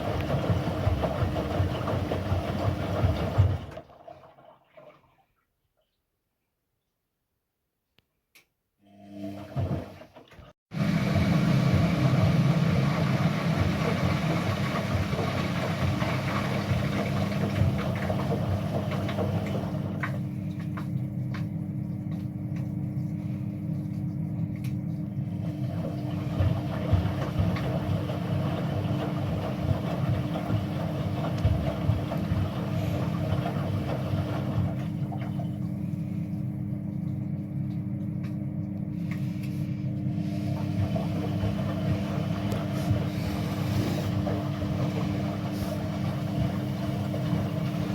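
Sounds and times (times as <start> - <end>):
washing machine motor hum: 0.0 - 5.2, 8.8 - 47.9.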